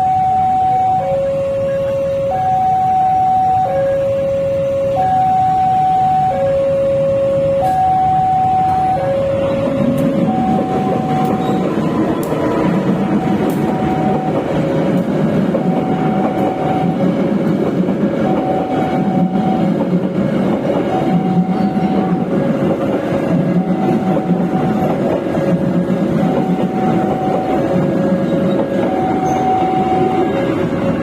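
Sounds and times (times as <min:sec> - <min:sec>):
level-crossing alarm two tones: 0:00.0 - 0:17.4, 0:18.0 - 0:30.7
train rumbling and rattling past: 0:00.0 - 0:31.0.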